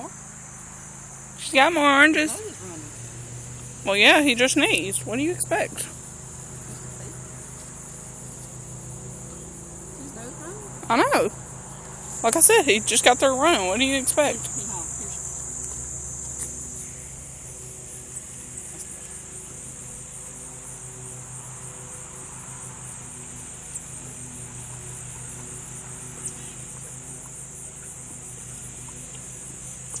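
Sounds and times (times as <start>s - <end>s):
insects chirping: 0.0s - 30.0s
low steady hum: 0.0s - 30.0s.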